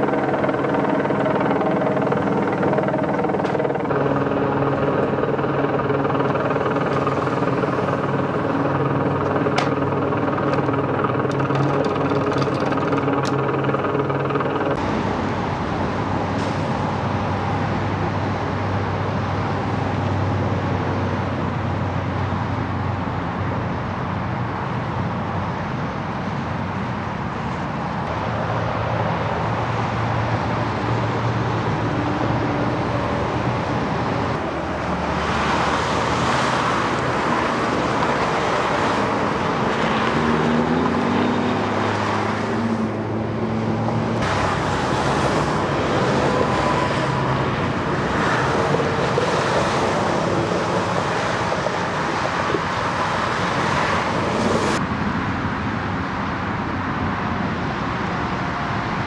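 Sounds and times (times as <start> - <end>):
freeway traffic rushing: 0.0 - 59.0.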